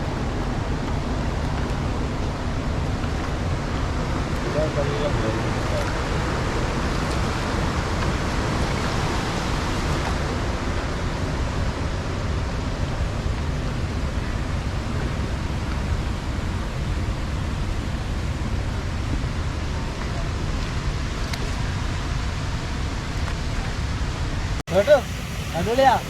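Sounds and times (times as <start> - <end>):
river water roaring: 0.0 - 26.0
wind rumble on microphone: 0.0 - 26.0.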